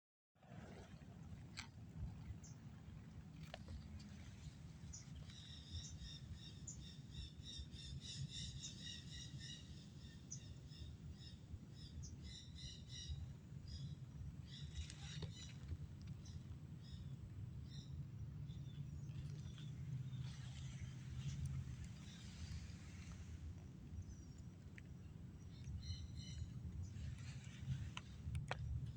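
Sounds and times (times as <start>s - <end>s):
steady low rumble: 0.5s - 28.9s.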